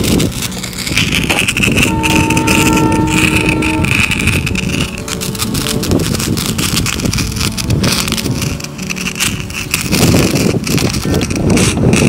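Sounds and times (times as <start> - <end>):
sparkler crackling: 0.0 - 12.0
wind rumbling on microphone: 0.0 - 12.0.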